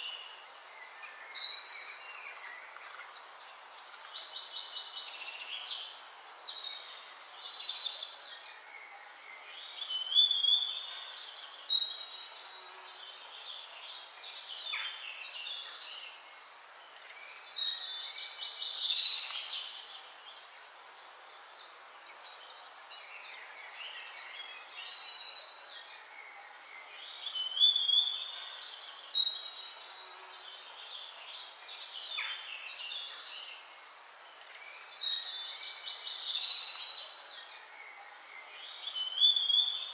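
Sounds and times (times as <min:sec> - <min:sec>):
birds chirping and trilling: 0:00.0 - 0:39.9
faint steady hiss: 0:00.0 - 0:39.9.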